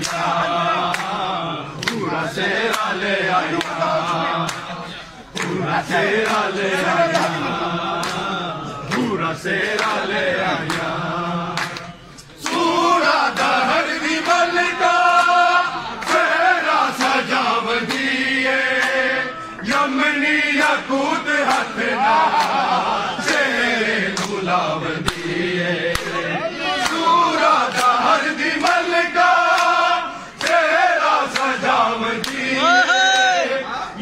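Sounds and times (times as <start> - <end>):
crowd of men chanting: 0.0 - 34.0.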